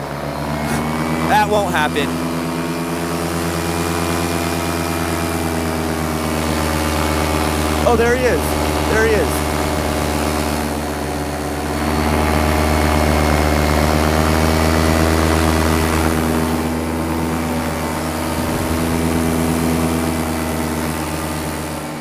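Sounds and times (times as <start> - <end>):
paramotor engine and propeller: 0.0 - 22.0.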